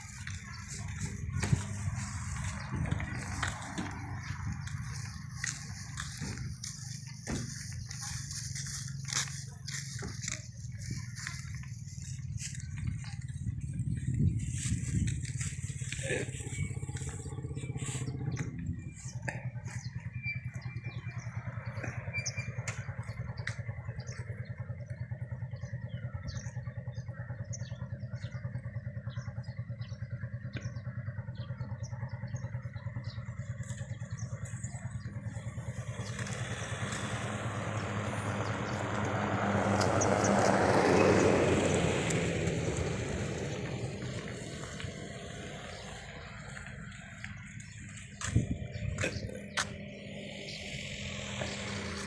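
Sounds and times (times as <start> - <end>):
passing vehicle: 0.0 - 52.0
small engine running: 0.0 - 52.0.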